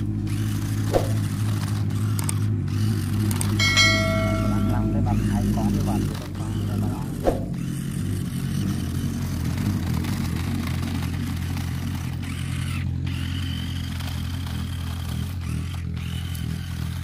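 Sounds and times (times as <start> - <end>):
toy car electric motor whirring: 0.0 - 17.0
wheels throwing sand: 0.0 - 17.0.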